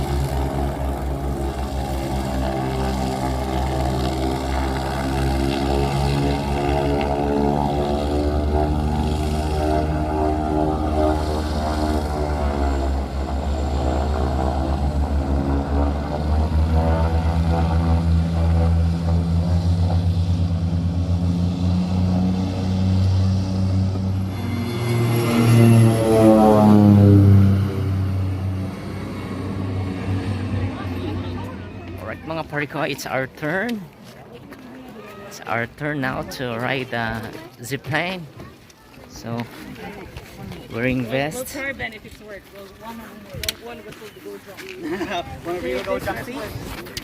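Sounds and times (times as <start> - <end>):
propeller engine droning: 0.0 - 38.5, 40.5 - 42.7.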